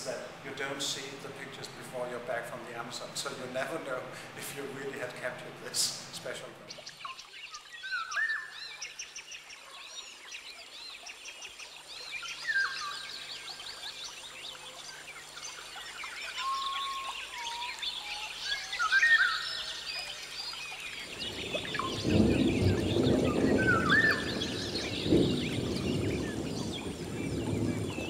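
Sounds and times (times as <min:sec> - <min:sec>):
birds chirping and trilling: 0:02.8 - 0:28.0.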